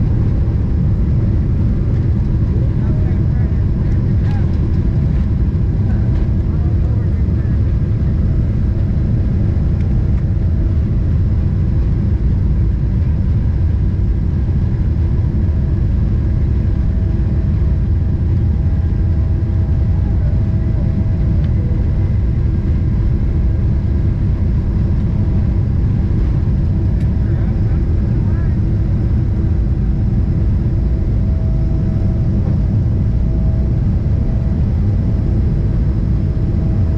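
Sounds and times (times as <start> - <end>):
jet engines rumbling in cabin: 0.0 - 36.9.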